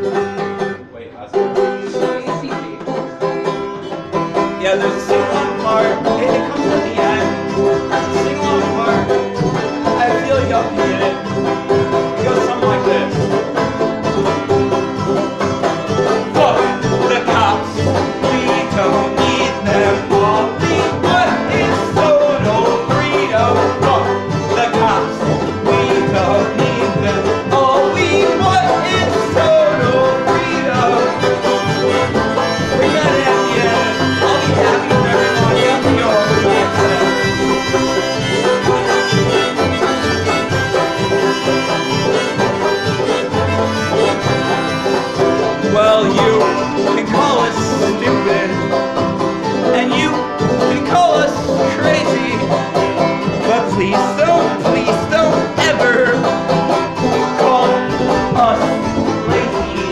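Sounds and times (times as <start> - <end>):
bluegrass string band playing: 0.0 - 59.9
harmonica: 2.4 - 59.9.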